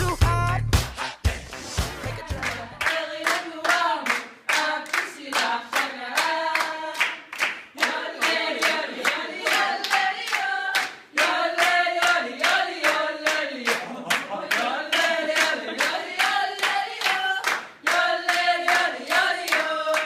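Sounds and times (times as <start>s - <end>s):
group singing a cappella: 1.0s - 20.0s
steady hand clapping: 2.3s - 20.0s.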